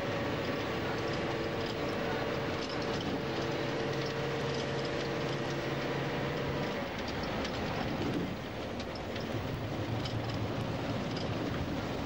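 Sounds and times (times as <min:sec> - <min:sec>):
bus engine hum: 0:00.0 - 0:12.0
bus road noise rumble: 0:00.0 - 0:12.0.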